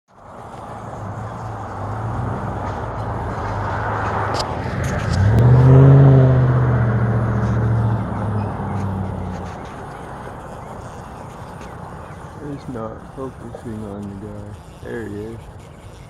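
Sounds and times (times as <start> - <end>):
bee buzzing: 0.1 - 16.0.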